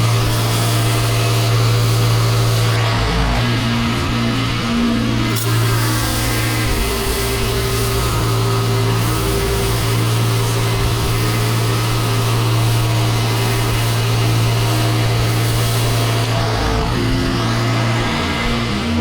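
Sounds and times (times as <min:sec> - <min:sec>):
pressure washer engine hum: 0:00.0 - 0:19.0
water jet hissing: 0:00.0 - 0:19.0.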